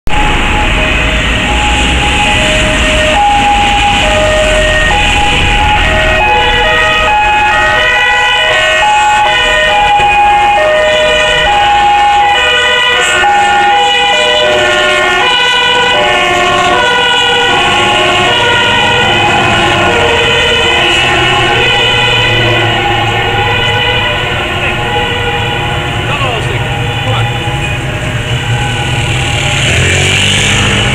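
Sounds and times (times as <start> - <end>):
two-tone fire engine sirens: 0.0 - 30.9.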